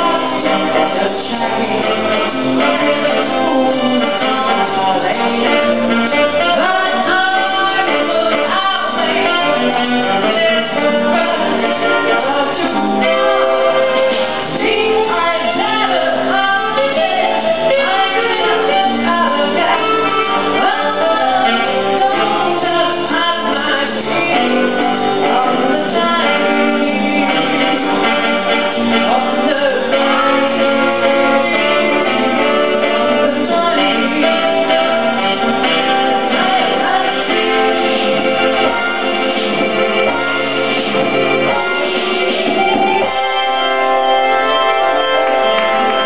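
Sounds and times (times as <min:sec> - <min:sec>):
person singing into a microphone: 0:00.0 - 0:42.9
instrumental accompaniment: 0:00.0 - 0:46.0.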